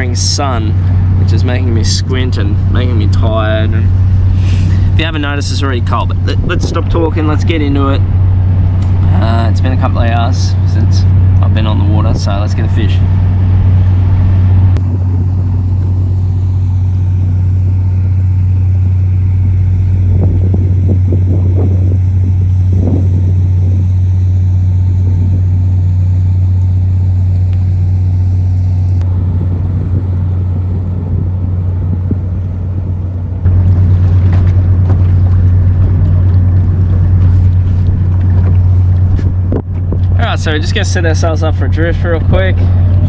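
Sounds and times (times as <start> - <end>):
outboard motor droning: 0.0 - 43.0.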